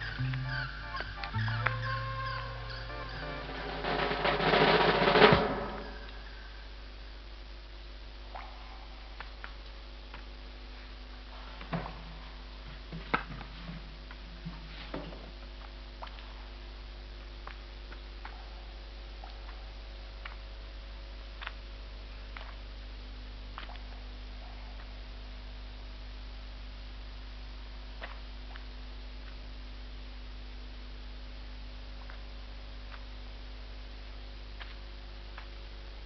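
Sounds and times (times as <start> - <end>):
steady electrical hum: 0.0 - 36.0.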